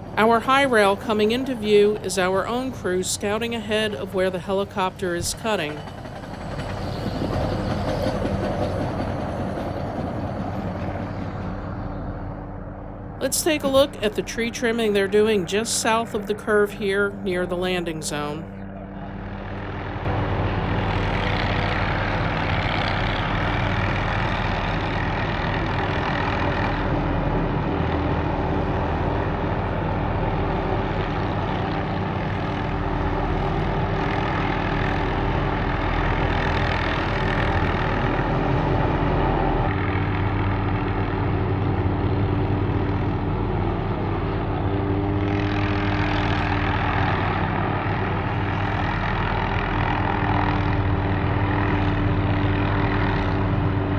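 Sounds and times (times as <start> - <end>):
helicopter engine and rotor drone: 0.0 - 53.9.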